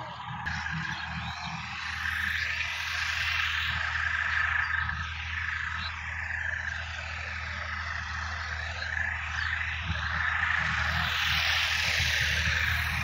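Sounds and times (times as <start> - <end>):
frogs calling: 0.0 - 13.0
low steady hum: 0.0 - 13.0.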